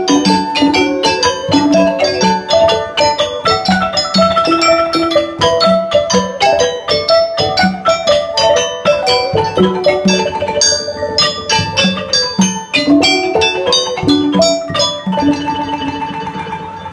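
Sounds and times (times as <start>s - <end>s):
wooden xylophone runs: 0.0s - 16.9s.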